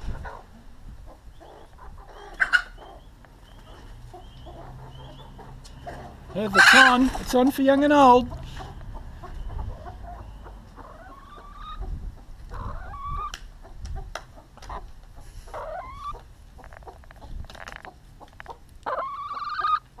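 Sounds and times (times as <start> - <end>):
chicken clucking: 0.0 - 20.0.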